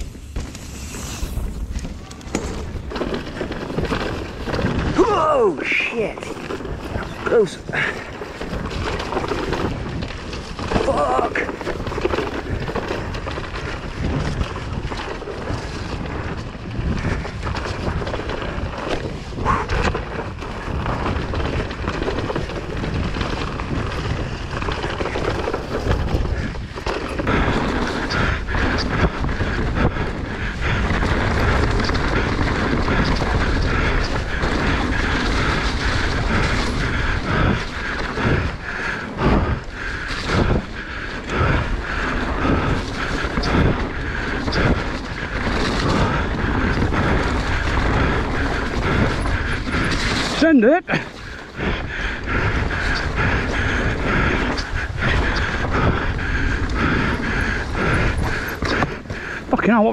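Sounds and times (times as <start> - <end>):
bike knocks and rattles: 0.0 - 5.5, 6.3 - 59.9
bike rumble: 0.0 - 59.9
wind buffeting microphone: 0.0 - 59.9.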